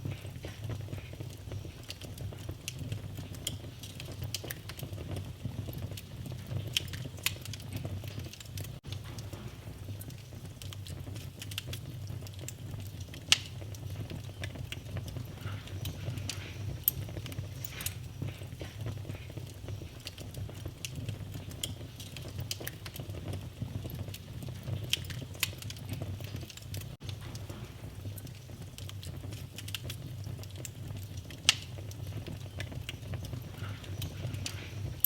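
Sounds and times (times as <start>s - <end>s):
fire crackling: 0.0s - 35.0s
sharp pops of fire: 0.0s - 35.0s
wood fire flames rumbling: 0.0s - 35.0s.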